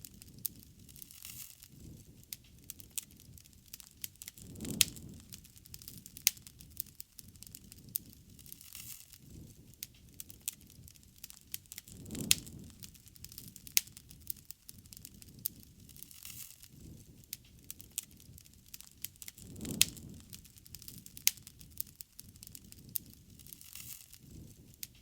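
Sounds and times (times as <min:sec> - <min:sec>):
bonfire crackling and popping: 0:00.0 - 0:25.0
low rush of fire: 0:00.0 - 0:25.0.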